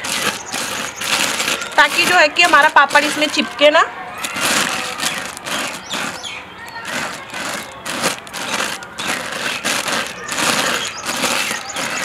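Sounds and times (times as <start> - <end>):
plastic sheet crinkling: 0.0 - 12.0.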